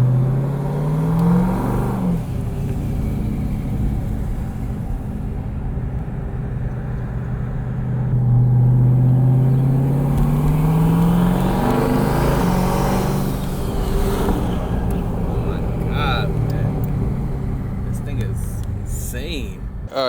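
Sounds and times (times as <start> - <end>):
engine accelerating: 0.0 - 19.9.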